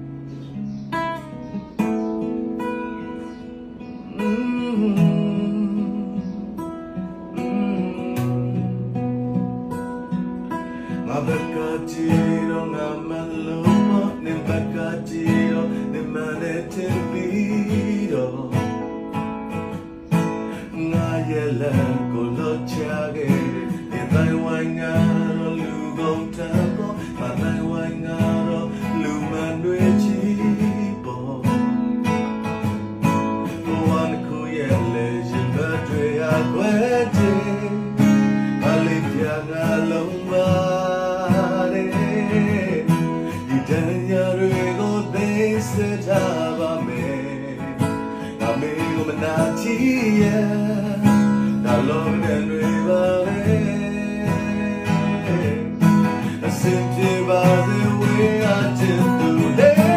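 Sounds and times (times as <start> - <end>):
acoustic guitar strummed and picked: 0.0 - 59.9.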